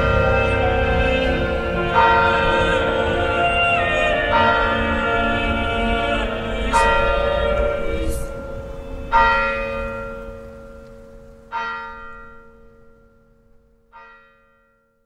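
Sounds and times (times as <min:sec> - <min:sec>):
church bell tolling: 0:00.0 - 0:15.0.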